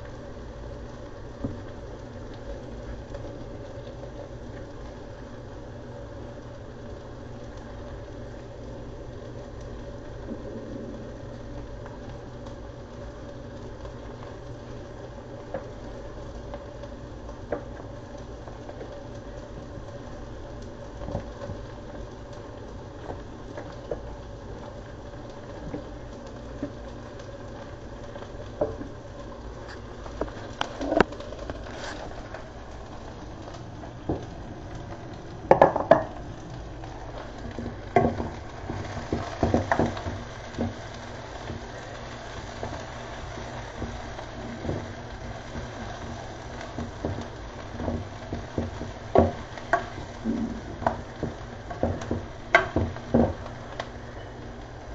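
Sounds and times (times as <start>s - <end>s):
onions sizzling in pan: 0.0s - 54.9s.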